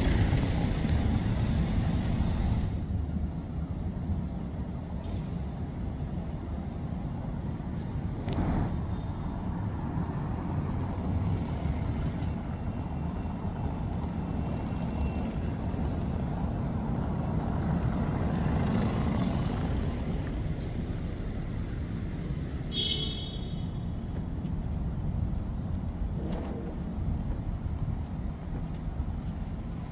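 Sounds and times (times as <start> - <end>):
cars driving past: 0.0 - 2.9, 7.1 - 29.9.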